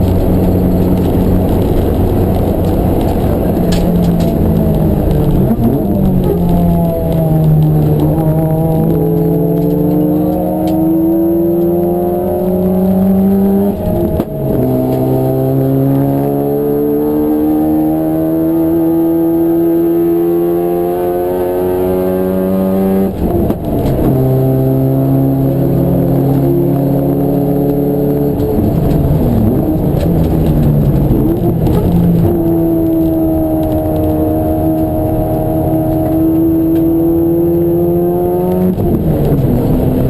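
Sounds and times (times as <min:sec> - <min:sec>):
race car engine accelerating: 0:00.0 - 0:40.0.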